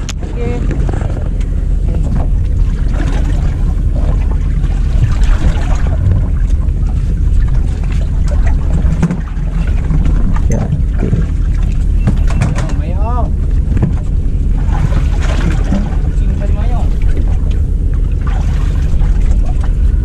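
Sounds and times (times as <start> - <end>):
boat engine humming: 0.0 - 20.0
water noise: 0.0 - 20.0
wind: 0.0 - 20.0.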